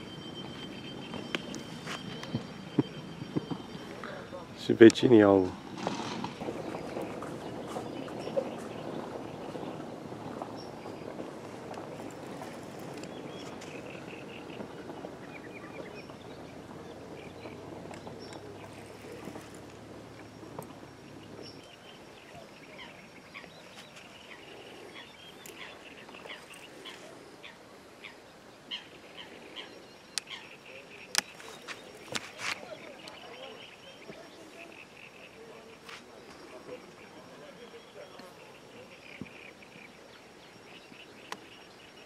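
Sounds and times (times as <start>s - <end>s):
birds chirping and calling: 0.0s - 36.0s.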